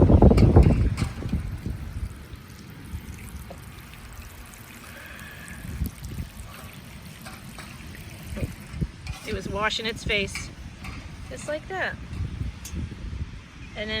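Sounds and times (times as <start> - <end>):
hose water trickling onto soil: 0.0 - 13.4.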